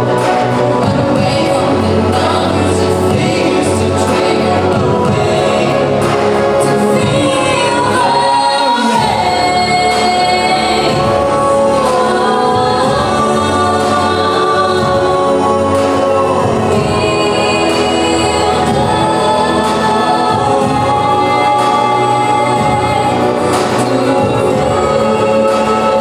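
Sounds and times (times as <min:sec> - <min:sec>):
orchestral pop music with choir: 0:00.0 - 0:26.0.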